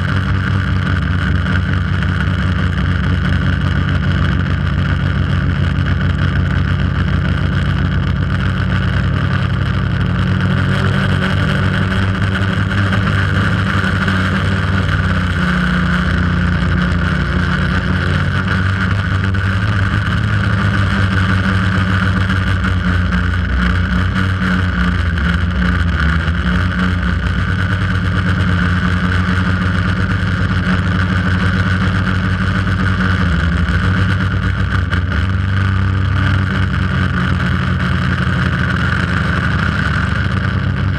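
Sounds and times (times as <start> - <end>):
drone propellers buzzing: 0.0 - 40.9.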